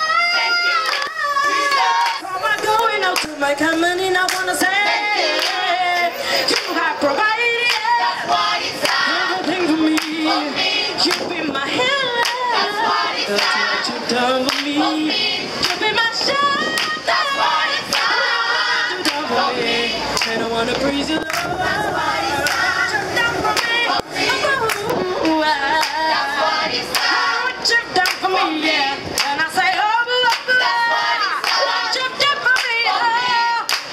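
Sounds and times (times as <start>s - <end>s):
choir singing: 0.0s - 3.2s, 4.4s - 33.9s
woman singing through microphone: 0.0s - 33.9s.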